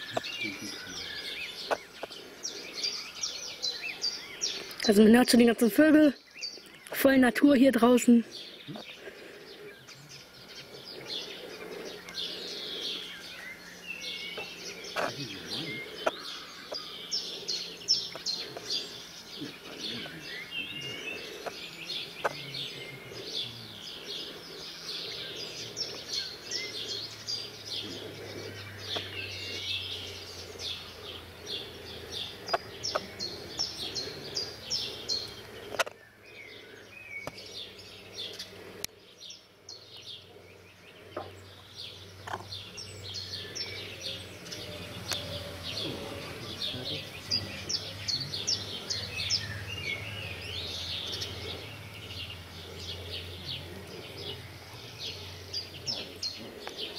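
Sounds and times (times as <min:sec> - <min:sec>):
small birds chirping: 0:00.0 - 0:56.9
steady low hum: 0:08.2 - 0:56.9.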